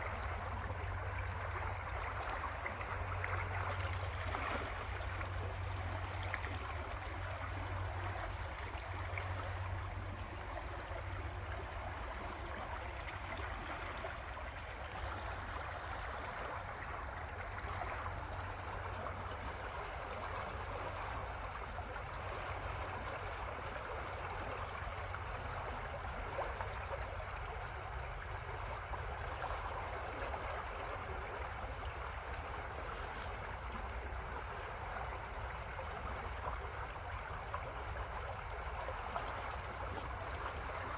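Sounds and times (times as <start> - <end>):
low steady rumble: 0.0 - 40.9.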